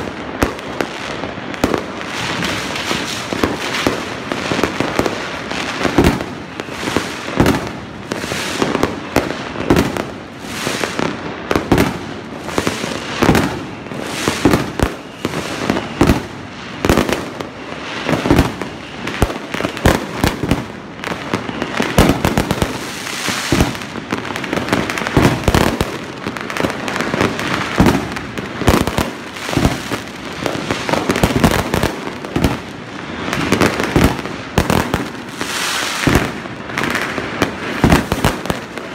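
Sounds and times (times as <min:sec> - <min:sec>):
fireworks banging: 0:00.0 - 0:38.9.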